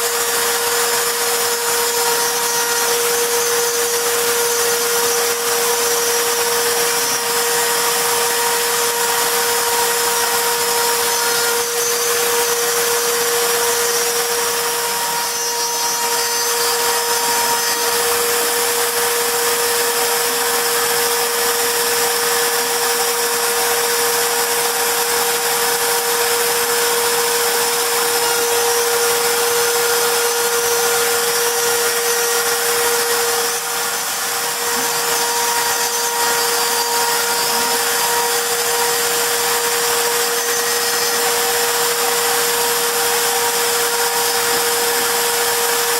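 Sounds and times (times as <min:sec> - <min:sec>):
bit cutting wood hissing: 0:00.0 - 0:45.9
router spindle whining: 0:00.0 - 0:45.9.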